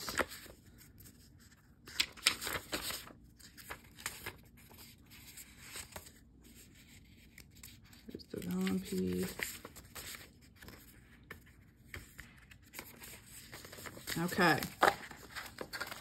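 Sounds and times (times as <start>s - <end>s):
paper sheets rustling: 0.0s - 16.0s.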